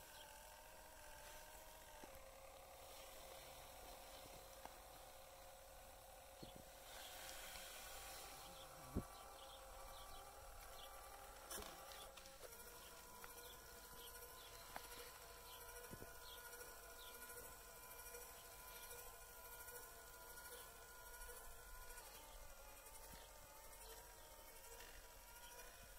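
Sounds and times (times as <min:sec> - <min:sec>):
small electric motor whine: 0:00.0 - 0:25.9.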